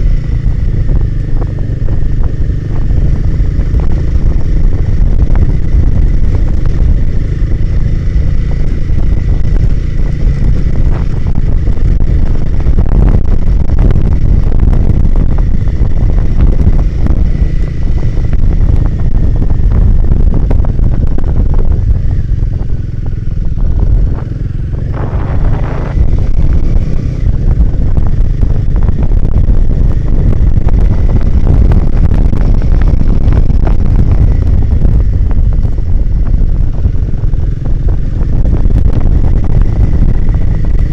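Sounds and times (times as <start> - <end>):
motorcycle engine running: 0.0 - 40.9
wind buffeting on microphone: 0.0 - 40.9.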